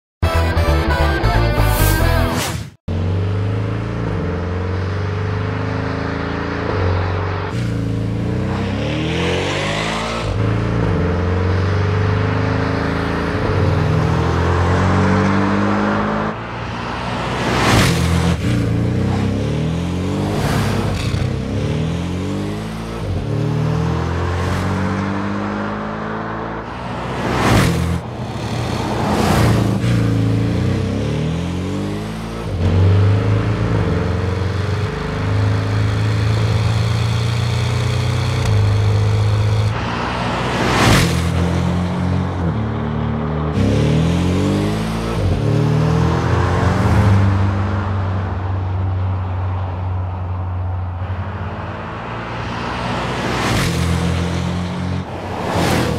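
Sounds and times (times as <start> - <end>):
car engine accelerating: 0.5 - 55.9.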